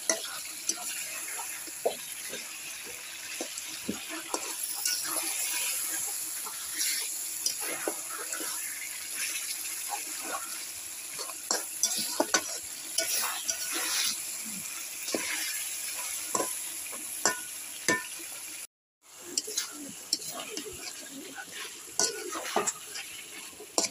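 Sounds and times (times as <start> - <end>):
fish frying in oil: 0.0 - 23.9
metal spatula scraping pan: 0.1 - 14.3, 15.0 - 16.6, 19.3 - 23.9.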